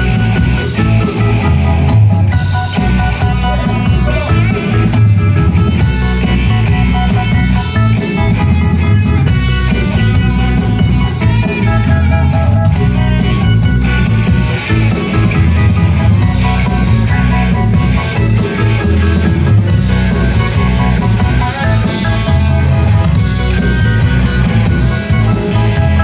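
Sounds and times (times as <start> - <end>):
bass: 0.0 - 26.0
drum kit: 0.0 - 26.0
electric guitar: 0.0 - 26.0
rock band playing: 0.0 - 26.0.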